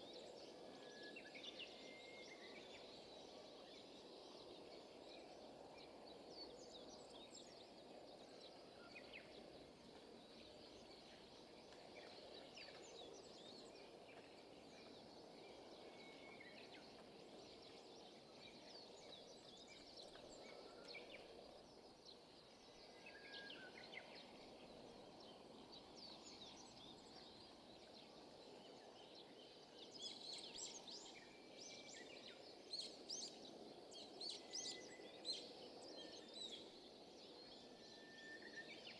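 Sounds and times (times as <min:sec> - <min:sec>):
faint steady background noise: 0:00.0 - 0:38.9.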